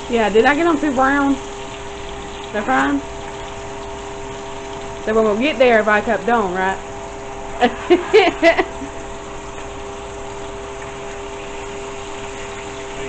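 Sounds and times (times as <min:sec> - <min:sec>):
patties sizzling in a pan: 0:00.0 - 0:13.0
steady hum: 0:00.0 - 0:13.0.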